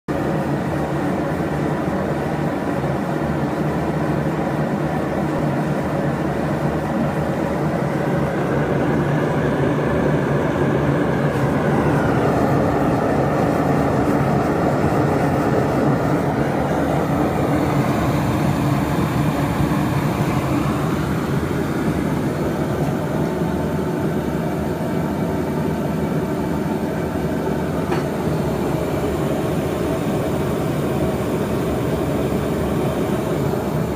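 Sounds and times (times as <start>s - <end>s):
propane forge burners roaring: 0.1s - 33.9s.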